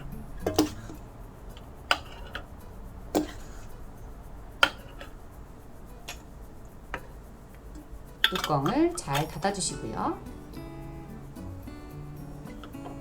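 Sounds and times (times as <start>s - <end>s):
glass jars clinking: 0.0s - 13.0s.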